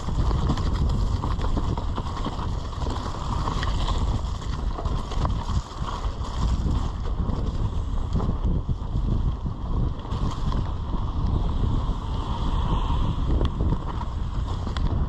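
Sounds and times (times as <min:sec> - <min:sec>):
bike rattling over bumps: 0:00.0 - 0:15.0
wind rushing over microphone: 0:00.0 - 0:15.0.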